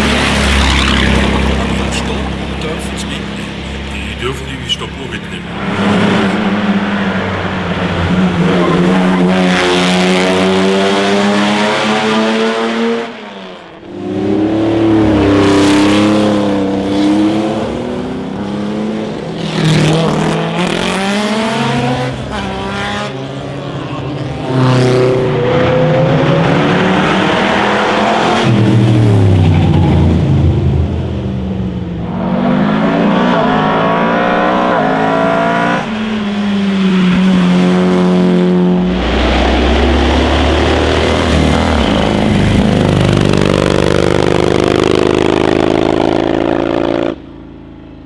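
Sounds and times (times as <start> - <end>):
racing cars accelerating hard: 0.0 - 47.3.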